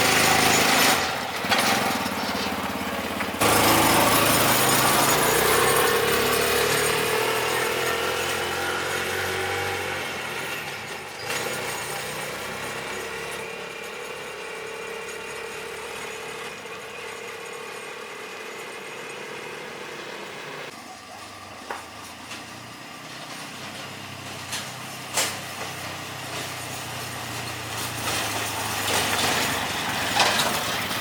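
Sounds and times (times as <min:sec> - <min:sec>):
small engine humming: 0:00.0 - 0:31.0.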